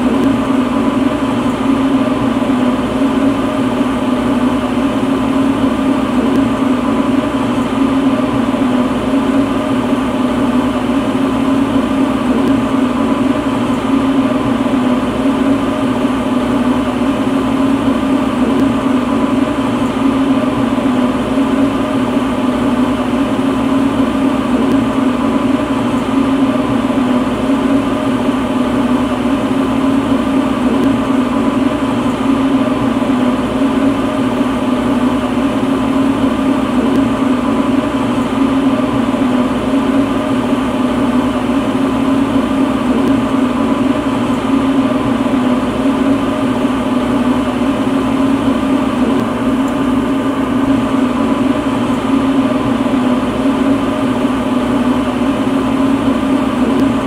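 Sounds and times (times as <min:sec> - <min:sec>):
torch burning with rushing hum: 0:00.0 - 0:57.0.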